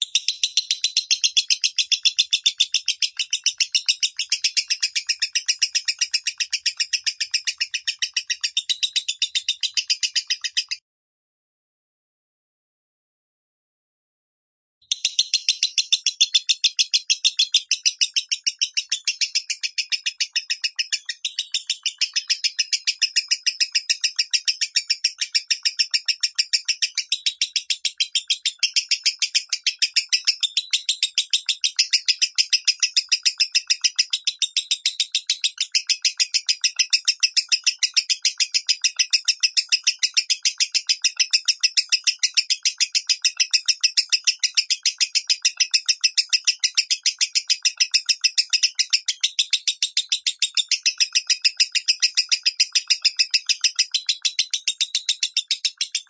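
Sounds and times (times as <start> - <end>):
lovebird singing high chirps: 0.0 - 10.8, 14.9 - 56.0.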